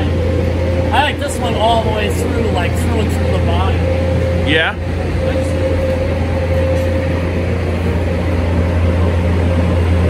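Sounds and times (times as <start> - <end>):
high machine whine: 0.0 - 10.0
low machine hum: 0.0 - 10.0.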